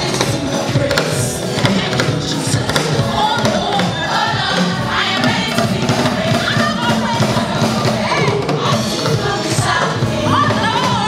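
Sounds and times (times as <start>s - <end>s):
drum kit beat: 0.0s - 11.0s
live band playing: 0.0s - 11.0s
women's gospel choir singing: 0.0s - 11.0s.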